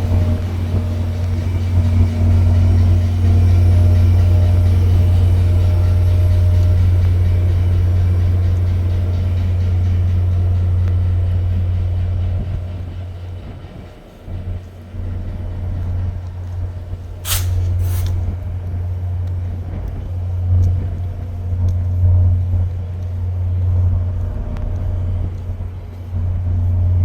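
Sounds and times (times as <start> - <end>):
diesel locomotives idling: 0.0 - 27.0.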